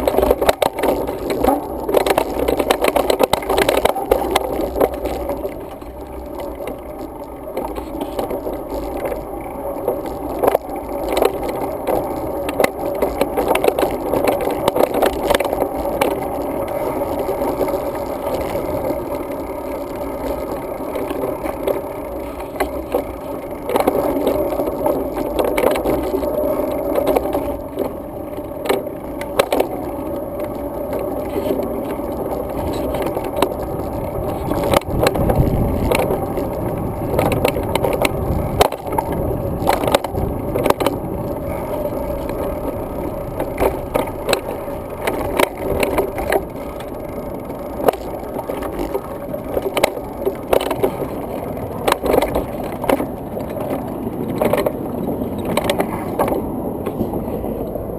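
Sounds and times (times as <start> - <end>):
bike rattling and knocking: 0.0 - 57.4
bike tyres rolling on pavement: 0.0 - 57.9.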